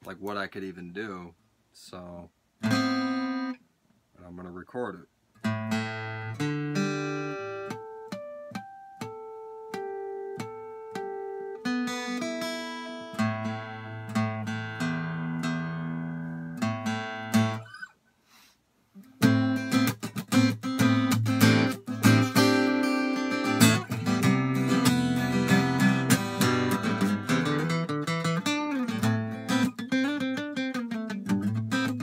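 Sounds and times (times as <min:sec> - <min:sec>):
fingerpicked acoustic guitar: 0:02.6 - 0:03.6, 0:05.4 - 0:18.0, 0:18.9 - 0:32.0.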